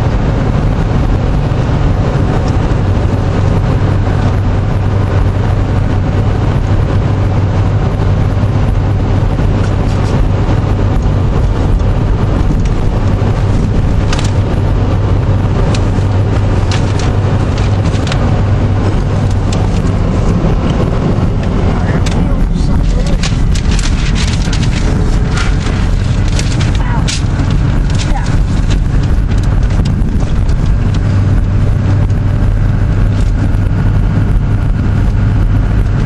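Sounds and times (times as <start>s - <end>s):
engine and tyres droning: 0.0s - 36.0s.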